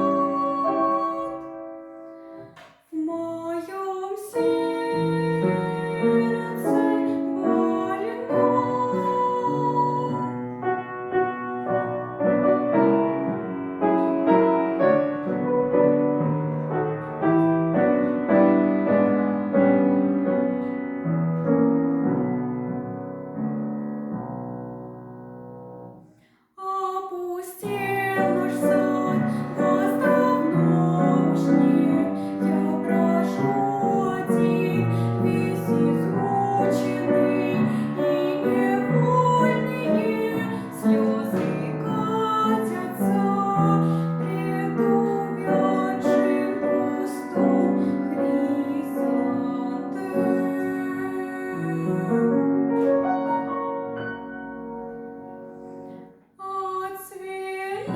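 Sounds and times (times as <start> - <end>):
slow piano accompaniment: 0.0 - 57.0, 57.6 - 57.9.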